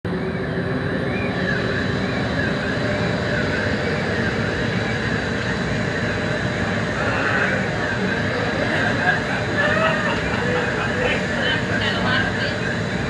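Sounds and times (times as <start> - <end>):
fan-driven wind rushing: 0.1 - 13.0.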